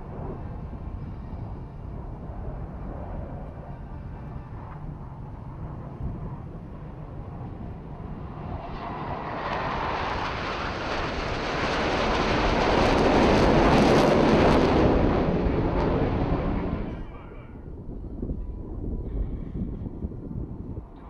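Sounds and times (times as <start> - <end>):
jets roaring past: 0.0 - 18.9.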